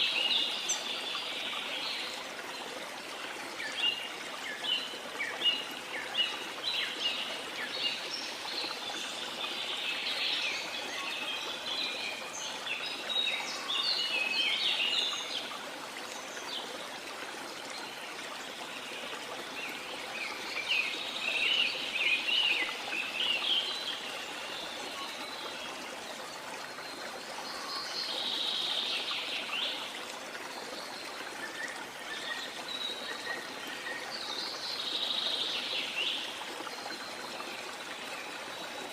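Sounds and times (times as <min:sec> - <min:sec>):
running water or rain: 0:00.0 - 0:38.9.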